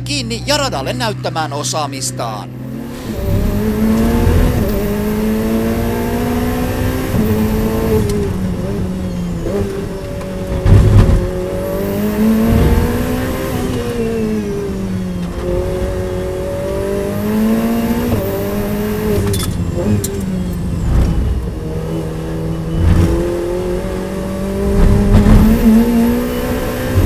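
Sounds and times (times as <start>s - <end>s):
race car engine revving: 0.0s - 27.0s.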